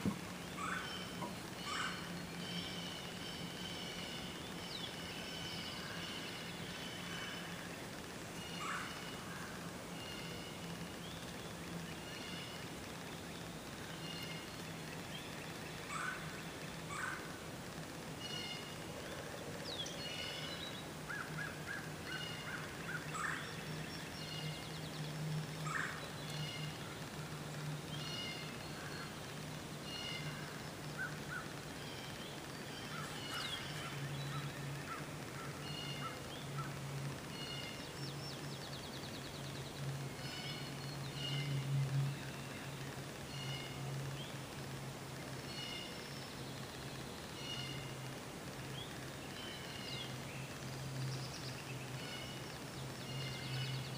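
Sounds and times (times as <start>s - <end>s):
steady low hum: 0.0s - 53.9s
wild birds singing: 0.0s - 53.9s.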